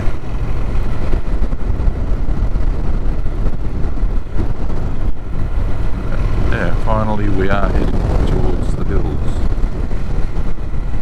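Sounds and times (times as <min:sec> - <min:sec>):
motorcycle engine: 0:00.0 - 0:11.0
wind rush on microphone: 0:00.0 - 0:11.0.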